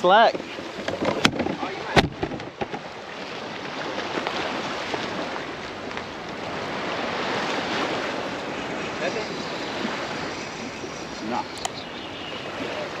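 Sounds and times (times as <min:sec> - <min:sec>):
surf washing against rocks: 0:00.0 - 0:13.0
wind on microphone: 0:00.3 - 0:13.0.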